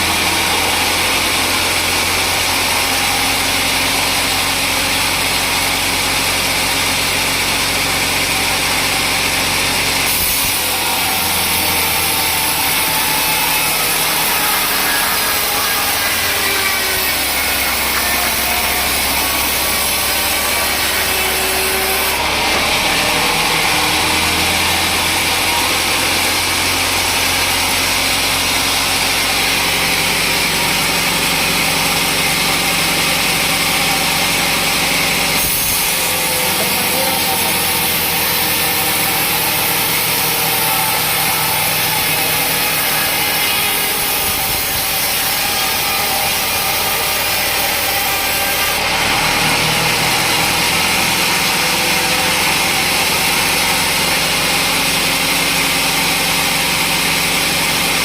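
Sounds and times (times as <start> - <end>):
saw blade cutting log: 0.0 - 58.0
sawmill saw running: 0.0 - 58.0.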